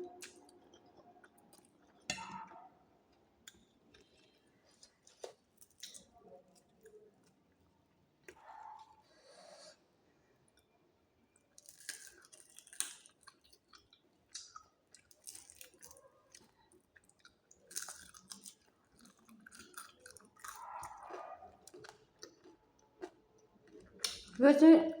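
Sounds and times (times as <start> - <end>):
chewing and crunching: 0.0 - 9.7, 11.4 - 24.4.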